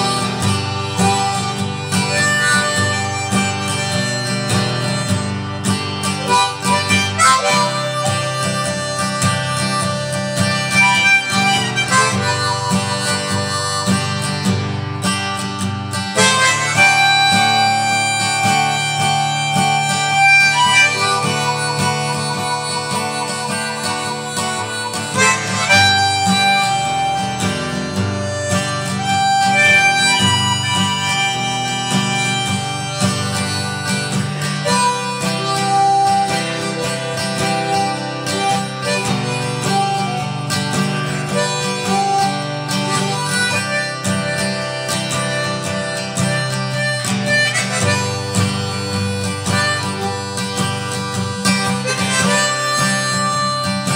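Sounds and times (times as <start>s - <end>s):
acoustic guitar: 0.0s - 53.9s
harmonica playing: 0.0s - 53.9s.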